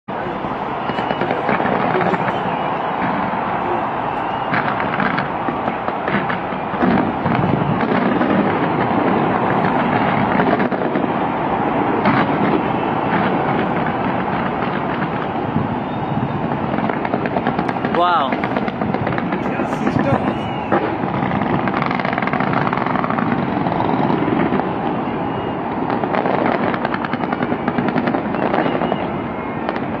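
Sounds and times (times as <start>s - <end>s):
fireworks bangs and crackles: 0.1s - 30.0s.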